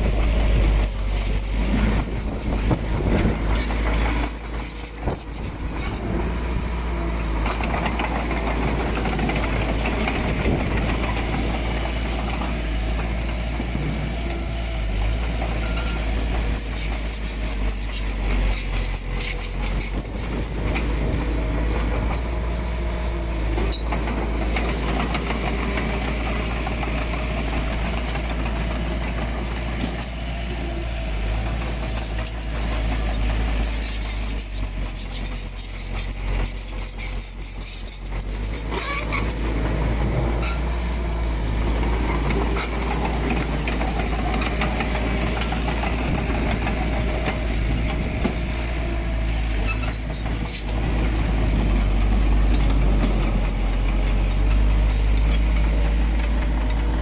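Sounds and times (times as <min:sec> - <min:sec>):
diesel machinery rumbling: 0:00.0 - 0:57.0.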